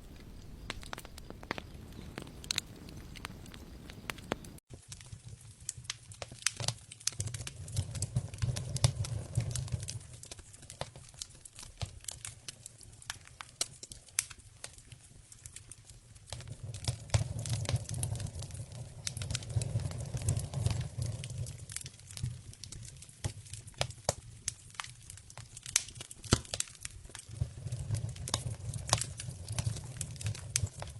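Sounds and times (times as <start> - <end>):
campfire crackling and popping: 0.0 - 30.9.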